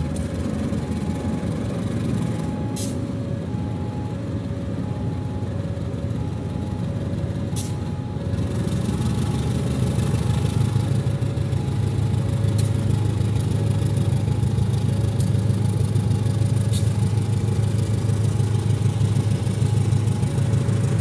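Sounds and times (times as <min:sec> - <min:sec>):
diesel locomotive rumbling: 0:00.0 - 0:21.0.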